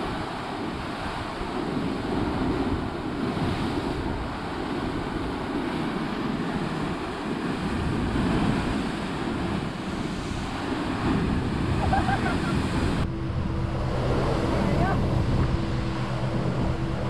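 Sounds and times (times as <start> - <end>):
ocean surf churning: 0.0 - 17.0
wind buffeting microphone: 0.0 - 17.0.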